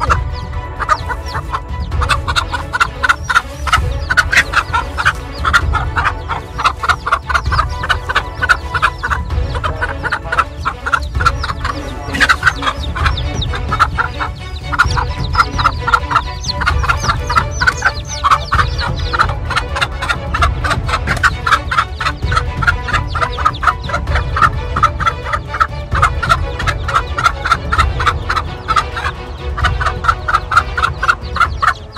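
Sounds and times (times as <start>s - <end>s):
chicks peeping: 0.0s - 31.9s
hen clucking rapidly: 0.0s - 31.9s.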